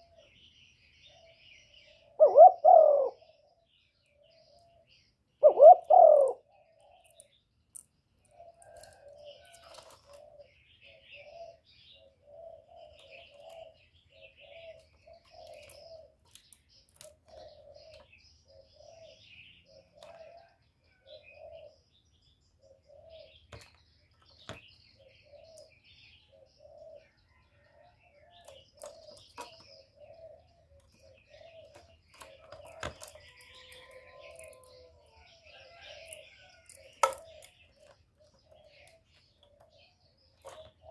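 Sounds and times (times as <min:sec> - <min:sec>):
small birds chirping: 0:00.0 - 0:40.9
dove cooing: 0:01.1 - 0:03.5, 0:04.2 - 0:07.1, 0:08.3 - 0:16.4, 0:17.0 - 0:21.8, 0:22.6 - 0:23.7, 0:24.4 - 0:40.9.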